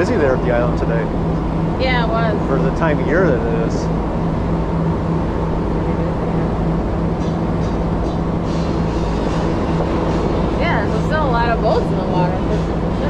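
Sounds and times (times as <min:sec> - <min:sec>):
boat engines droning: 0:00.0 - 0:13.0.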